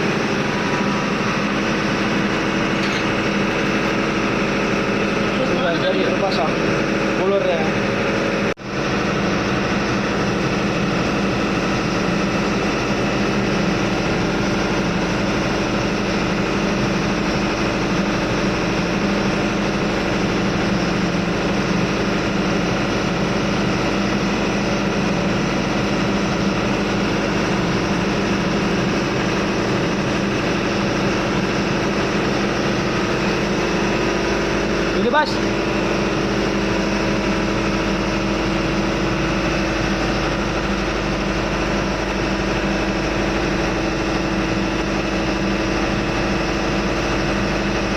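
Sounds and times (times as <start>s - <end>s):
engine room machinery drone: 0.0s - 47.9s.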